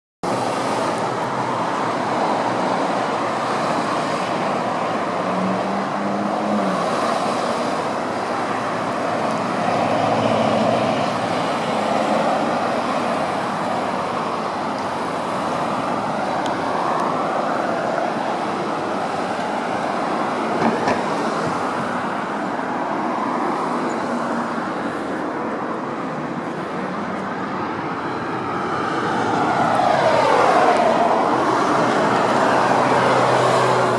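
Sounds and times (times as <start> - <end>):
road traffic passing: 0.2 - 33.9.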